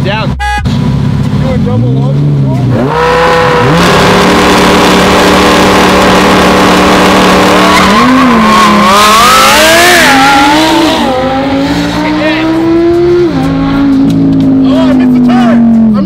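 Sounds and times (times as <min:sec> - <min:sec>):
sports car engine revving: 0:00.6 - 0:16.0.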